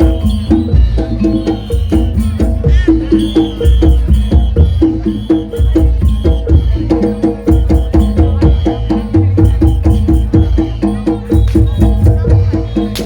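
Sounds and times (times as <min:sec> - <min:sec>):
percussion-led music with bass: 0:00.0 - 0:13.0.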